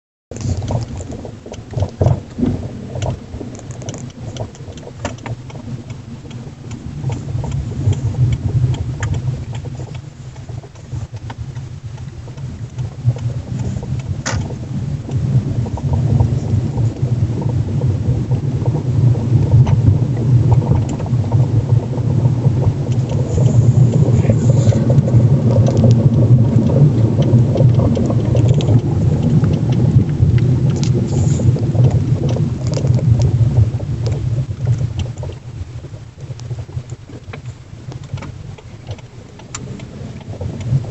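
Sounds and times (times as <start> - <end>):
car road rumble: 0.3 - 40.9.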